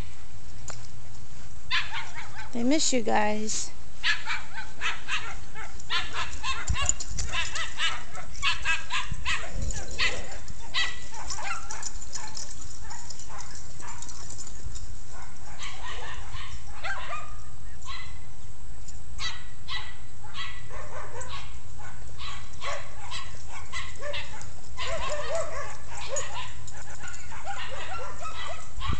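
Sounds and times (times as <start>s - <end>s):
dogs barking and yipping: 1.7s - 2.6s, 4.0s - 18.2s, 19.2s - 28.9s.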